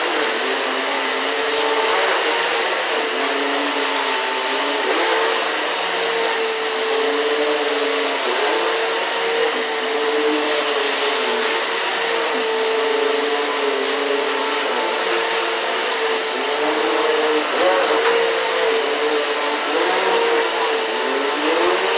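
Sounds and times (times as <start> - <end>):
upright vacuum cleaner running: 0.0 - 21.9.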